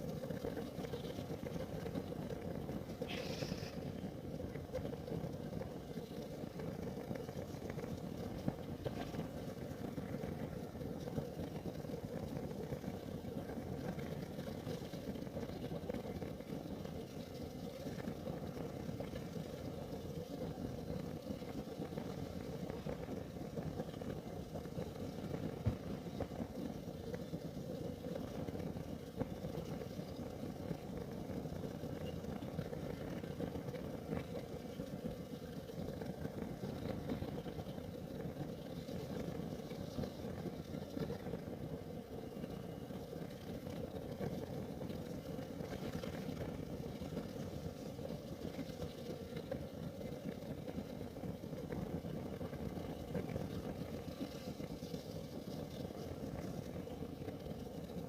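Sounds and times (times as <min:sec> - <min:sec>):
heater flame burning: 0:00.0 - 0:58.0.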